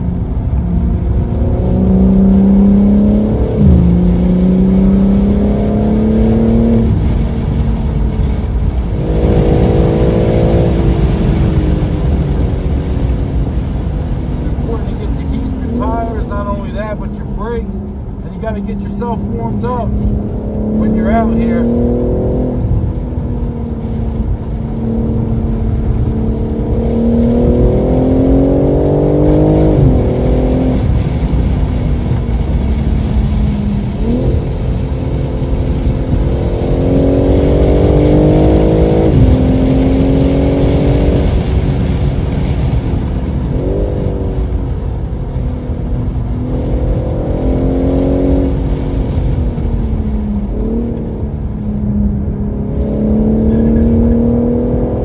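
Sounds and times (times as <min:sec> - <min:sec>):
car engine accelerating hard: 0:00.0 - 0:55.0
low rumble: 0:00.0 - 0:55.0.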